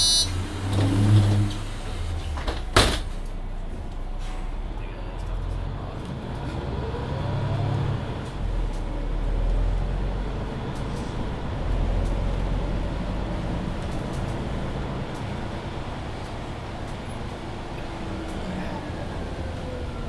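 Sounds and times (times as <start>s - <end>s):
bus drivetrain rumble and whine: 0.0s - 20.0s.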